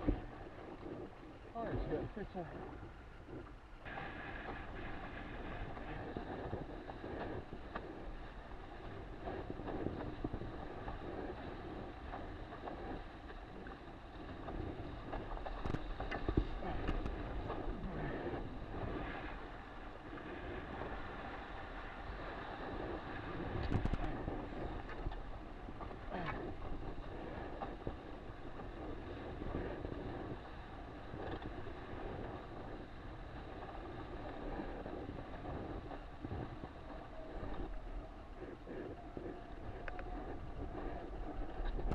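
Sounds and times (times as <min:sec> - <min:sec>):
water splashing along a hull: 0:00.0 - 0:41.9
wind buffeting the microphone: 0:00.0 - 0:41.9.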